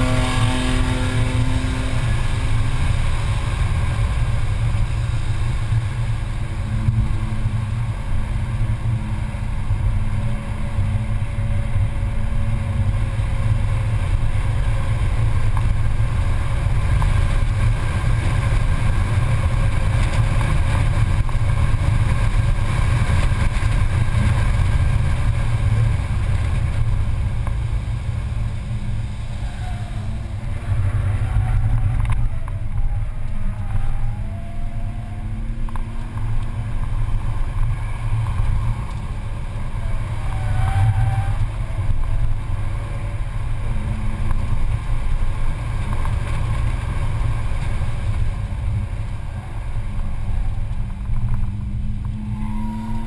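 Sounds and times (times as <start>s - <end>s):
car engine running hard: 0.0s - 53.0s
wind and road noise: 0.0s - 53.0s.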